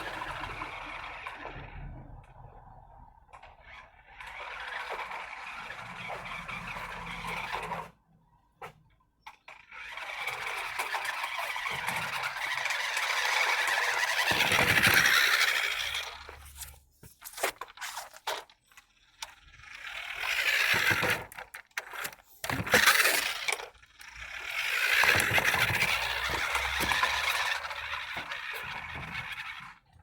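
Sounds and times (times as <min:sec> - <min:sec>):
remote-control car motor and wheels: 0:00.0 - 0:30.0.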